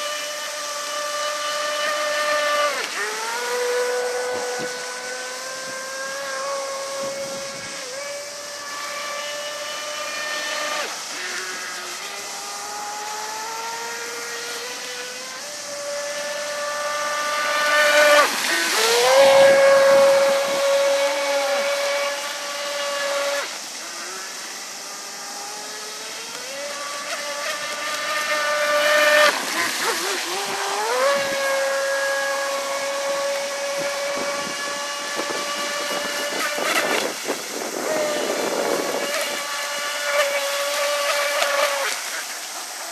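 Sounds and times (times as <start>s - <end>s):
electric motor whine: 0.0s - 42.9s.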